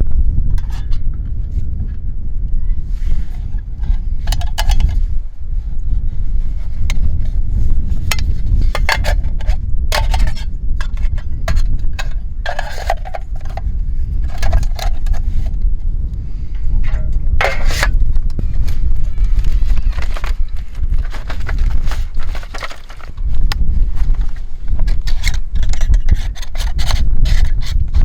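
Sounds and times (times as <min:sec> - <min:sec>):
wind buffeting microphone: 0:00.0 - 0:28.0
camping gear scraping and clinking: 0:03.0 - 0:28.0.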